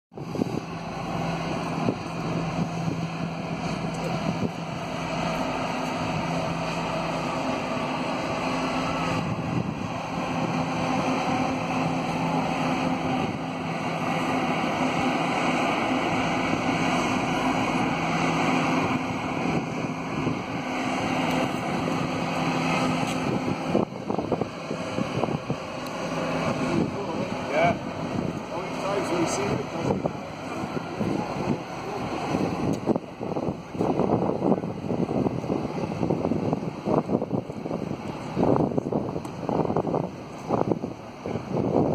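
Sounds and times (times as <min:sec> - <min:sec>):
ferry engines humming: 0:00.1 - 0:41.9
wind on microphone: 0:00.1 - 0:41.9.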